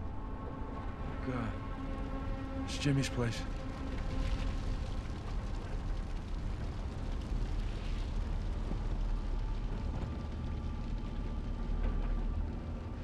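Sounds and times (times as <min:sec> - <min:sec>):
house fire roaring: 0:00.0 - 0:13.0.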